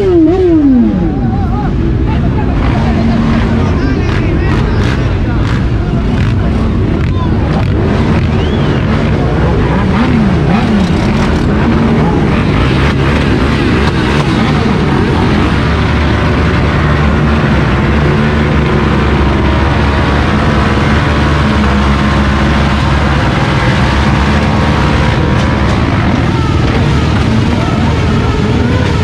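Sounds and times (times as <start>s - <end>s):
motorcycle and quad engines: 0.0s - 29.0s.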